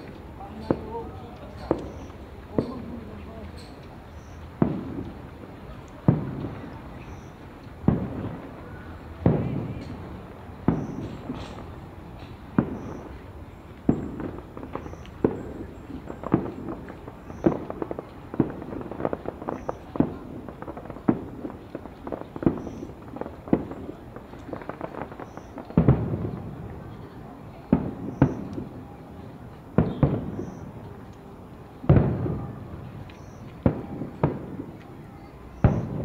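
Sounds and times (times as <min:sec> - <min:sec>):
crackling pops: 0:00.0 - 0:36.0
fireworks booming: 0:00.0 - 0:36.0.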